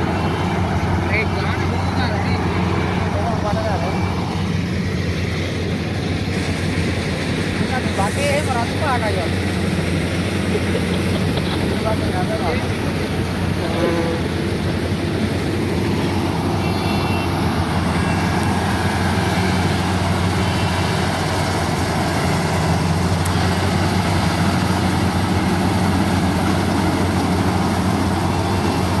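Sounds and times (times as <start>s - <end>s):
harvester engine droning: 0.0s - 29.0s.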